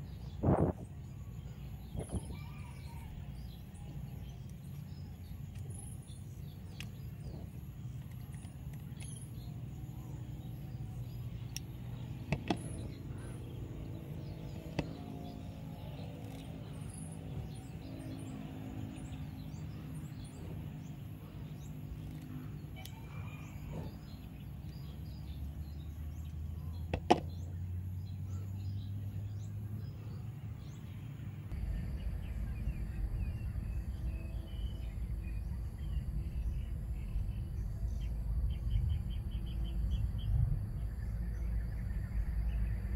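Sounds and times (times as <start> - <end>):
low background rumble: 0.0 - 42.9.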